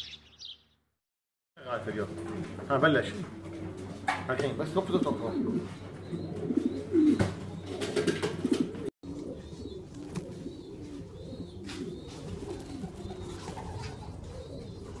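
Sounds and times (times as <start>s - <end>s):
pigeons cooing: 1.7s - 15.0s.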